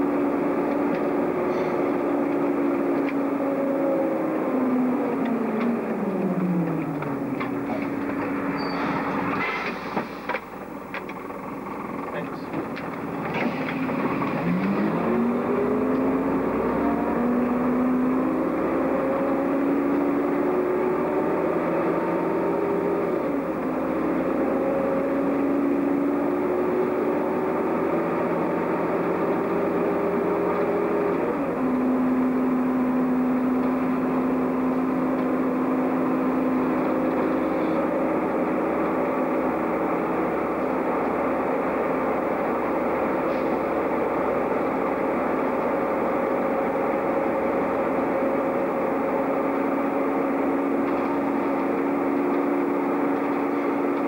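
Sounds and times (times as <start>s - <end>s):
bus diesel engine accelerating: 0.0s - 54.0s
road noise: 0.0s - 54.0s.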